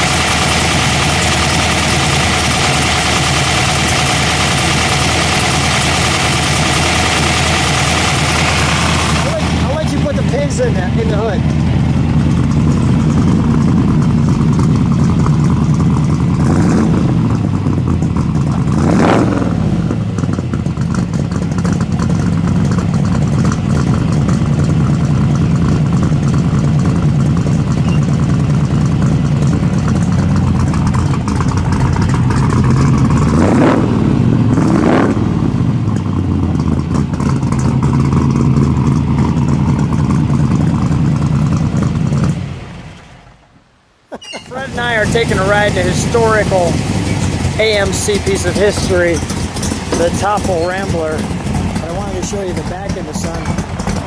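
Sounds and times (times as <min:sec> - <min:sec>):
vee eight engine idling and revving: 0:00.0 - 0:43.4, 0:44.4 - 0:54.0.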